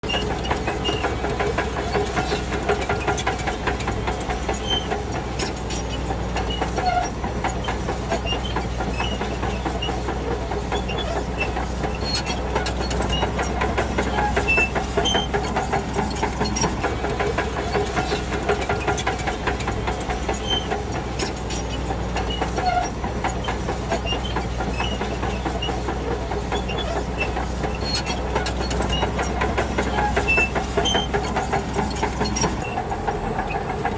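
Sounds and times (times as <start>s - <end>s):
bulldozer diesel engine running: 0.0s - 33.9s
steel tracks clattering: 0.0s - 33.9s.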